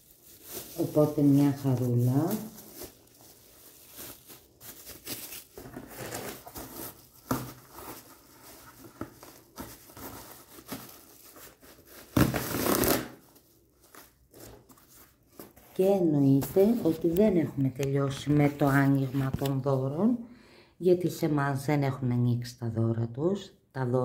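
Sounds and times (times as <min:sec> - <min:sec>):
packaging crinkling and rustling: 0:00.0 - 0:19.6.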